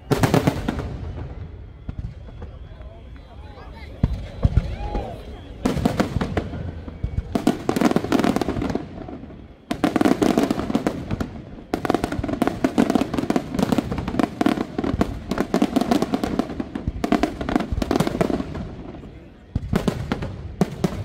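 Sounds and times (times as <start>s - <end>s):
fireworks bursts and bangs: 0.0s - 21.0s.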